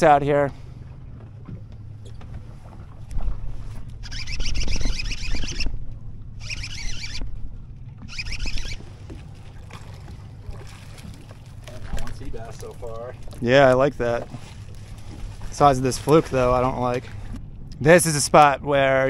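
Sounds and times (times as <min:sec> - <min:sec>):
boat engine low hum: 0:00.0 - 0:19.0.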